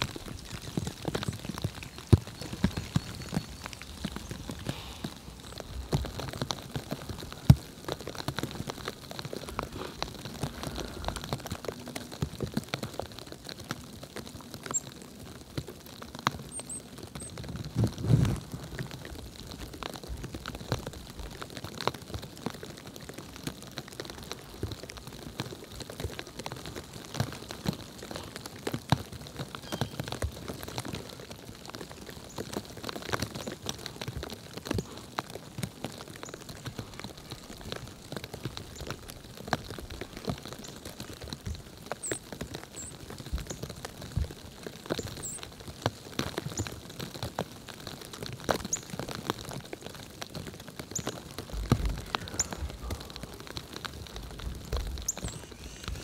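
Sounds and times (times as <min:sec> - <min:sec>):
snow pattering on surfaces: 0:00.0 - 0:56.0.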